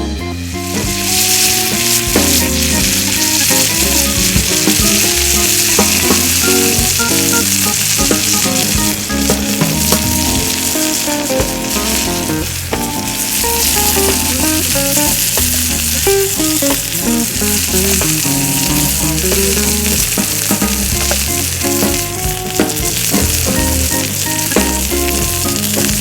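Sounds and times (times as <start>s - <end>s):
background music with bass: 0.0s - 26.0s
food sizzling on a grate: 0.6s - 26.0s.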